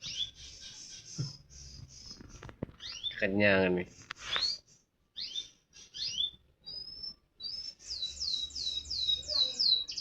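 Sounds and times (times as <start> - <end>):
canary singing: 0.0 - 10.0.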